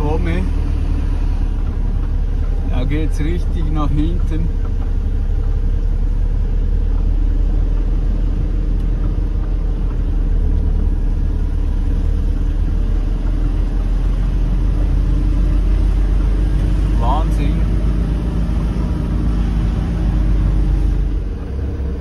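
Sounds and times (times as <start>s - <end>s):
diesel engine droning: 0.0s - 22.0s
road noise: 0.0s - 22.0s.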